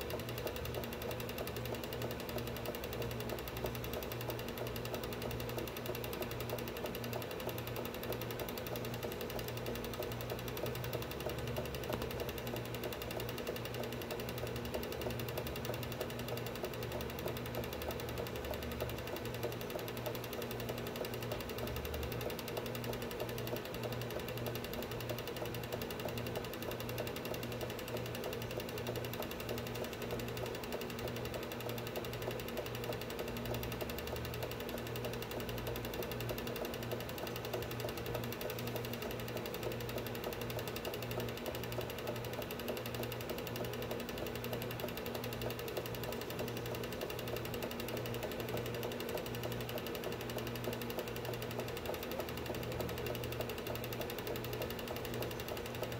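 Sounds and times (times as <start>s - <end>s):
motor hum: 0.0s - 55.9s
projector mechanical clatter: 0.0s - 55.9s.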